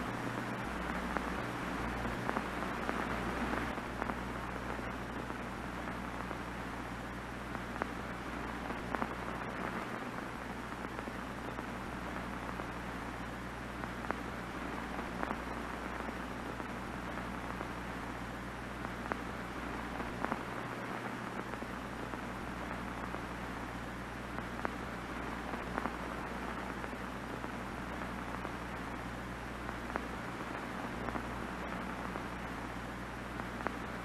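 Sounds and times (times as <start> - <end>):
low hum: 0.0 - 34.0
television static hiss: 0.0 - 34.0.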